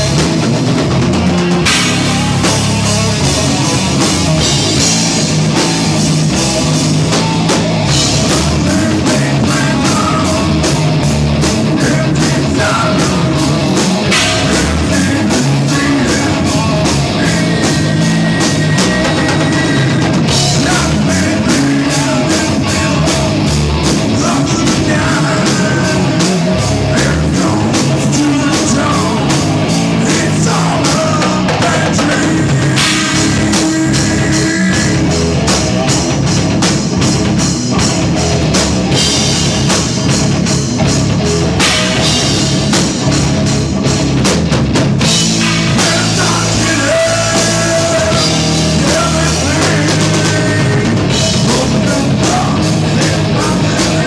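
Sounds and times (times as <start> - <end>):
drum kit beating: 0.0 - 54.0
loud rock music: 0.0 - 54.0.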